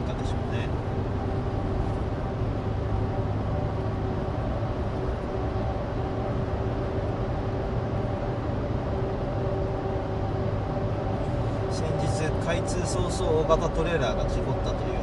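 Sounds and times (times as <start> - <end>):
car engine humming: 0.0 - 15.0
tyres rumbling on road: 0.0 - 15.0.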